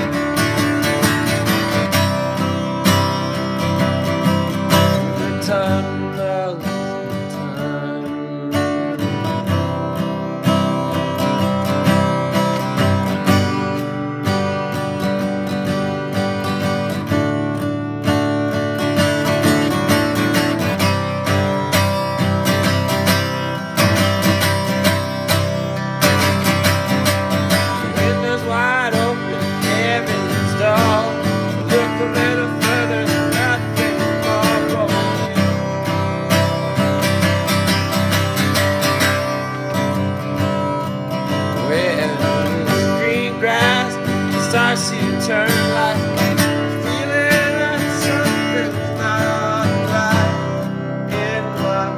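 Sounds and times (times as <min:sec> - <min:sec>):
strummed acoustic guitar: 0:00.0 - 0:51.9.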